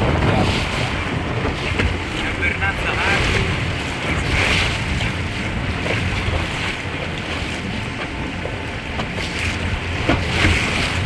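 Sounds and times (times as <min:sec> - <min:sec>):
motorboat engine drone: 0:00.0 - 0:11.0
rushing water: 0:00.0 - 0:11.0
wind on microphone: 0:00.0 - 0:11.0.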